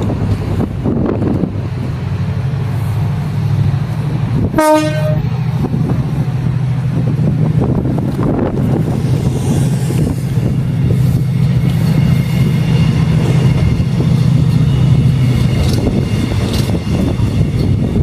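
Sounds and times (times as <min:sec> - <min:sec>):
locomotive droning: 0:00.0 - 0:18.0.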